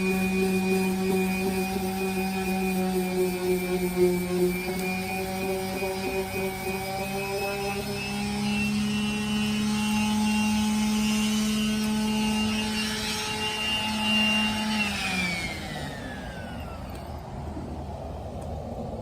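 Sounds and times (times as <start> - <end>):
electric sander running: 0.0 - 19.0
sander motor spinning down: 0.0 - 19.0.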